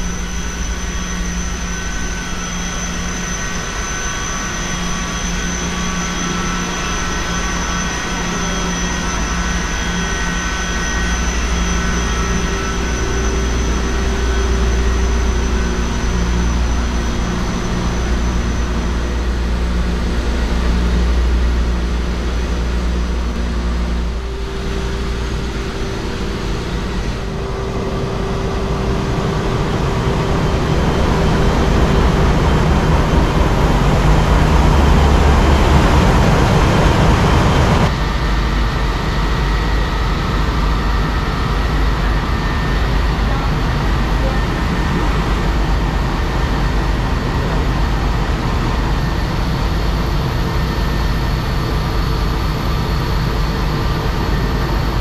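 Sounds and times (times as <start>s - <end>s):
engine room machinery drone: 0.0s - 55.0s.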